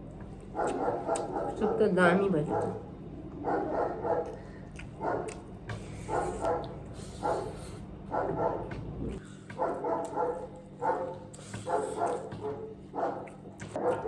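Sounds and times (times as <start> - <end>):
dog barking: 0.5 - 4.4, 5.0 - 5.4, 6.0 - 8.8, 9.6 - 14.0.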